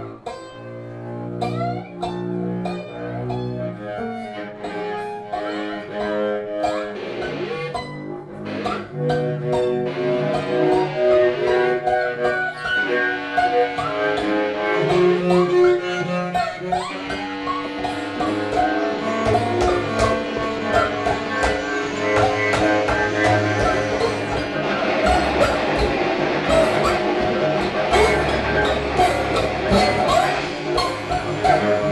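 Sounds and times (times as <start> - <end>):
cello bowed and plucked: 0.0 - 31.9
electric bass guitar: 0.0 - 31.9.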